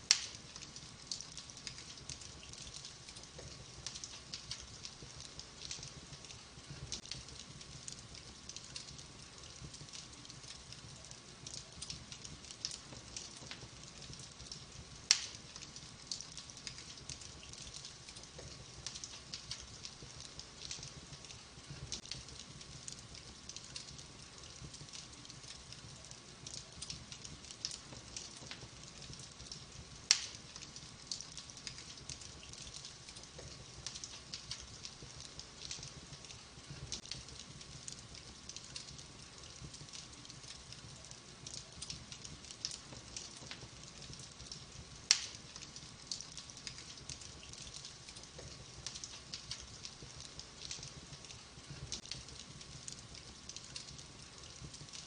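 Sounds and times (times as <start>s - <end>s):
fire crackling with snaps: 0.0s - 55.0s
soft hiss: 0.0s - 55.0s.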